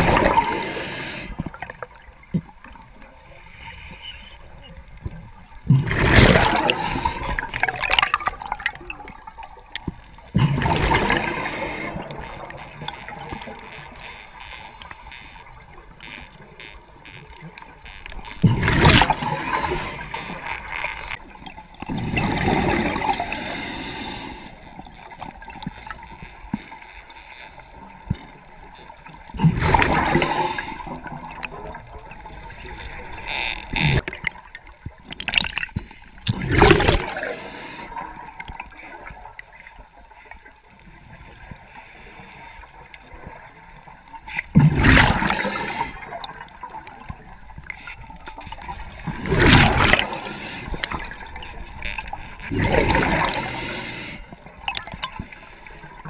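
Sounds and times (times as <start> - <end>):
quiet breathing hiss: 0.0 - 7.8, 8.8 - 34.0, 36.8 - 56.0
scuba regulator bubbling: 0.0 - 39.4, 44.3 - 56.0.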